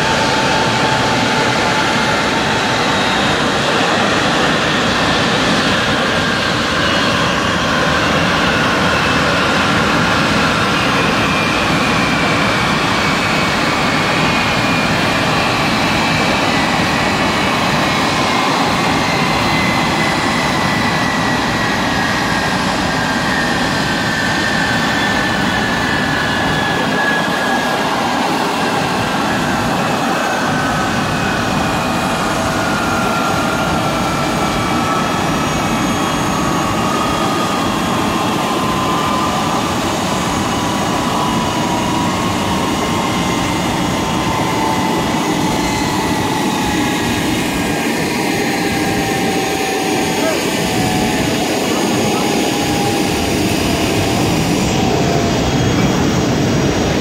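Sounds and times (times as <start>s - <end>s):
jet engine whine: 0.0s - 57.0s
jet engines running: 0.0s - 57.0s.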